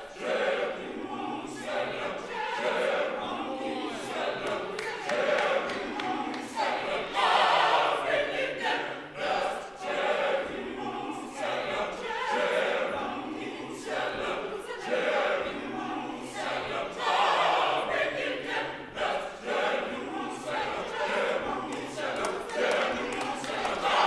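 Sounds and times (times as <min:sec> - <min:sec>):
gospel choir singing: 0:00.0 - 0:24.0.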